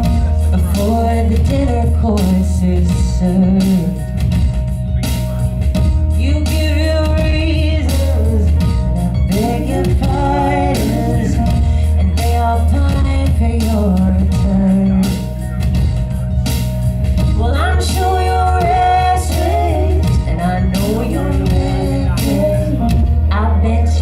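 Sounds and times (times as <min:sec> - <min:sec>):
woman singing into microphone: 0:00.0 - 0:04.5, 0:06.1 - 0:15.5, 0:17.2 - 0:24.0
electronic backing with deep bass: 0:00.0 - 0:24.0.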